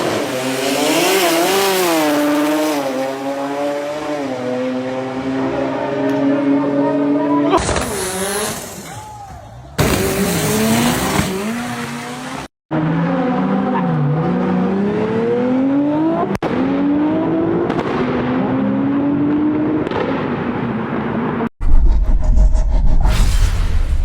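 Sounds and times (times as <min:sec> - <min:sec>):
car engines revving hard: 0:00.0 - 0:09.0, 0:09.7 - 0:21.4.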